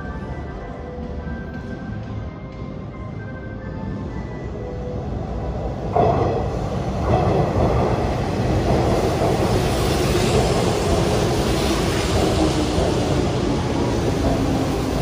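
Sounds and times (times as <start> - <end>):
train wheel and running noise: 0.0 - 15.0.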